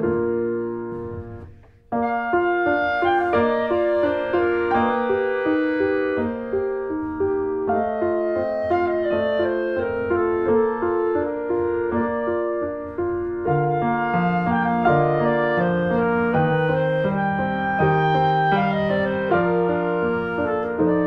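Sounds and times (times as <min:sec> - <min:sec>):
piano: 0:00.0 - 0:21.0
woodwind melody: 0:00.0 - 0:21.0.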